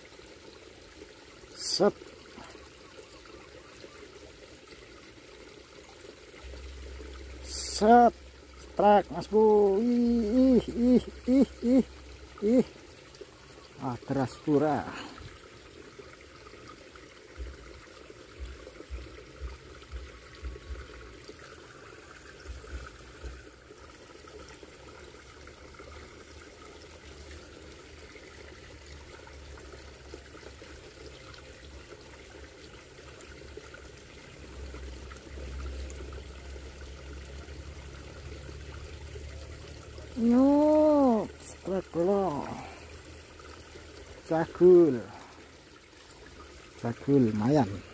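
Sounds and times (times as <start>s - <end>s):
stream trickling over stones: 0.0s - 47.9s.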